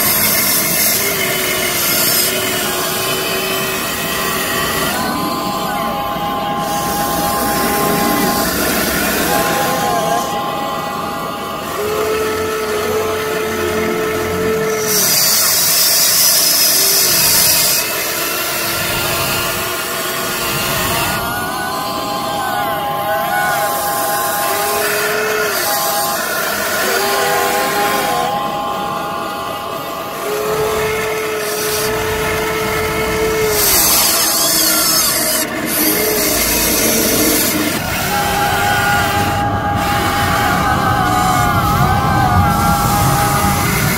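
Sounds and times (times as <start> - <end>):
electric motors whining: 0.0 - 43.9
loud high hiss: 0.0 - 43.9.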